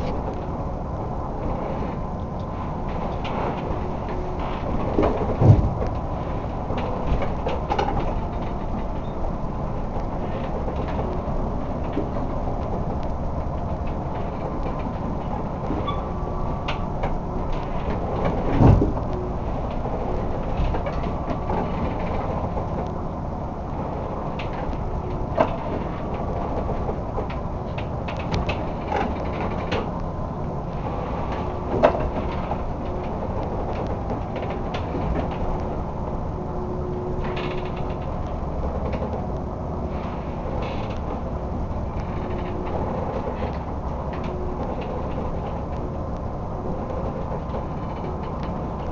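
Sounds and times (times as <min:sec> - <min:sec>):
boat engine rumble: 0:00.0 - 0:48.9
sea: 0:00.0 - 0:48.9
wind: 0:00.0 - 0:48.9.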